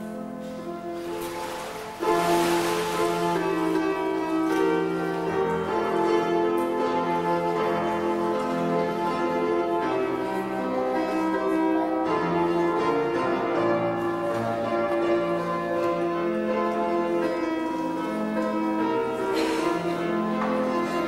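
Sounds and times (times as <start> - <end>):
keyboard playing sustained chords: 0.0 - 21.0.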